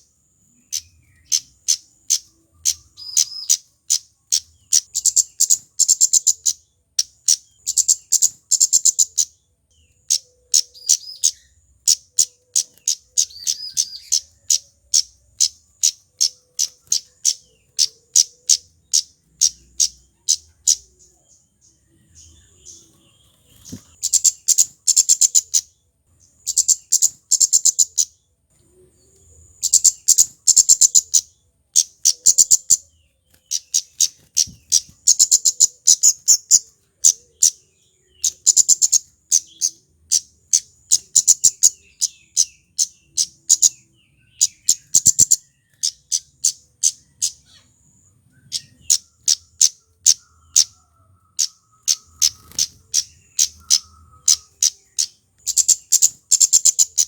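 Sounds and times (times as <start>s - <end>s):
bird calling high chips: 0.6s - 21.2s, 22.2s - 25.8s, 26.4s - 28.2s, 29.0s - 57.0s.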